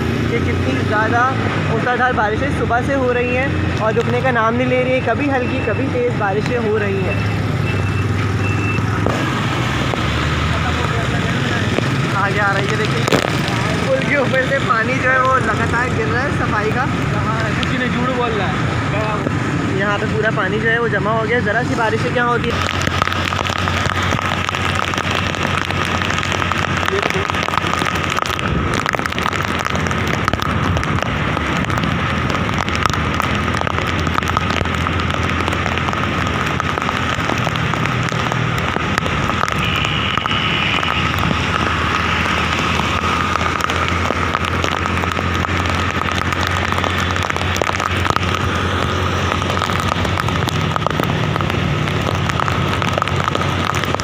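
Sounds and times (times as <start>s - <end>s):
heavy rain patter: 0.0s - 54.0s.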